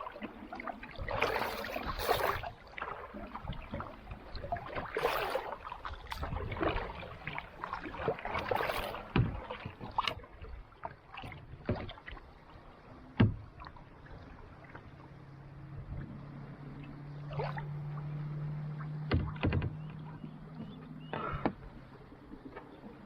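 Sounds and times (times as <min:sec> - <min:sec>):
kayak paddle splashing: 0:00.0 - 0:23.0.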